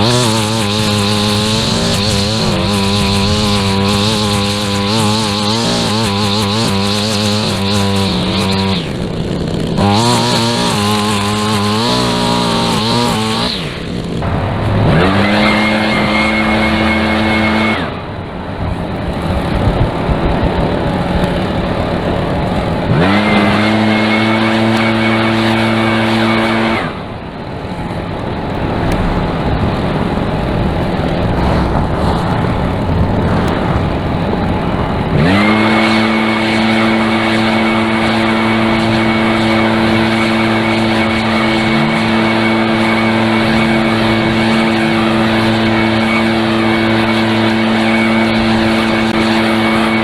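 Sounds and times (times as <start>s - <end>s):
two-stroke lawn tool engine revving: 0.0s - 50.0s.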